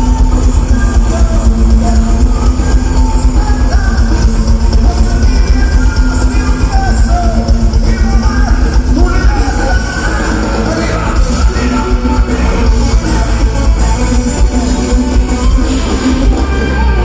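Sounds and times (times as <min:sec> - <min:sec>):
live rock band playing: 0:00.0 - 0:17.0
person singing: 0:00.0 - 0:17.0.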